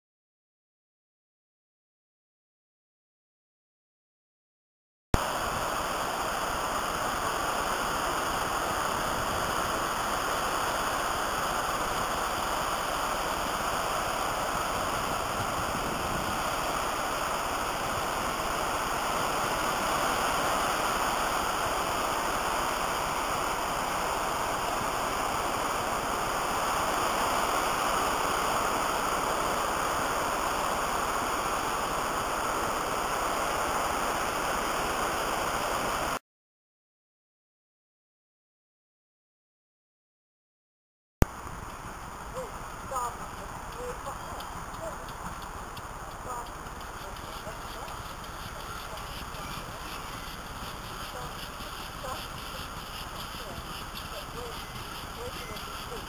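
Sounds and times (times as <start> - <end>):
surf washing onto beach: 5.2 - 36.2, 41.2 - 56.0.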